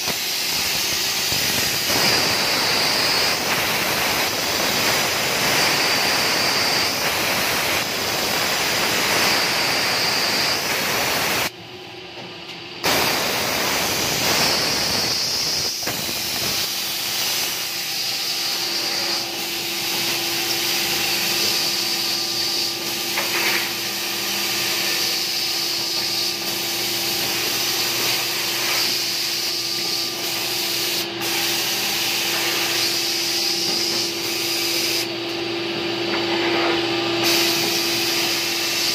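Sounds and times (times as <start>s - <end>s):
machine whirring hiss: 0.0s - 11.6s, 12.8s - 35.4s, 36.0s - 38.9s
steady hum: 0.0s - 38.9s.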